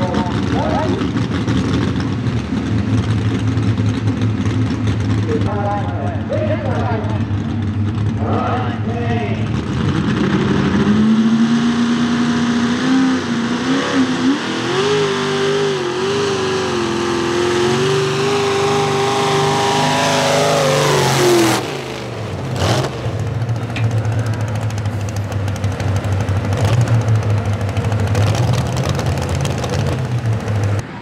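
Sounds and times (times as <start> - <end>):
tractor engine at high revs: 0.0 - 31.0.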